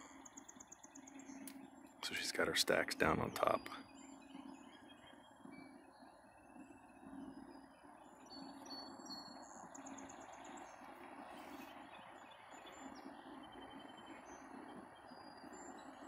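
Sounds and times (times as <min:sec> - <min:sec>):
bird trill: 0:00.0 - 0:16.0
birds chirping: 0:00.0 - 0:16.0
low hum: 0:00.0 - 0:16.0.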